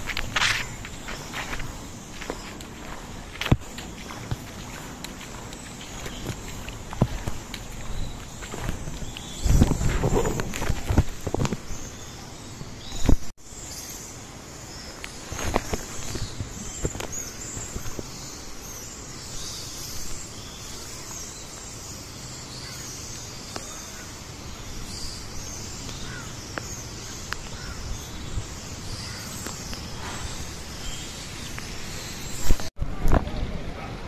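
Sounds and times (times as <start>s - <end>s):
flying foxes squeaking: 0.0s - 32.7s.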